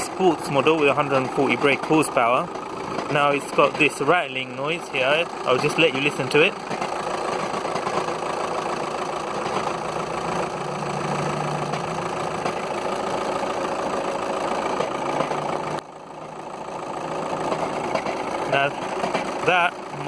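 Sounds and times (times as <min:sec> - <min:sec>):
diesel engine idling with rattle: 0:00.0 - 0:20.0.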